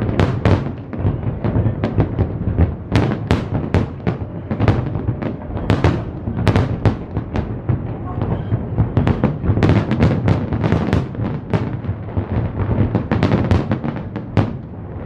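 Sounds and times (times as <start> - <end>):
low rumble of explosions: 0.0 - 15.0.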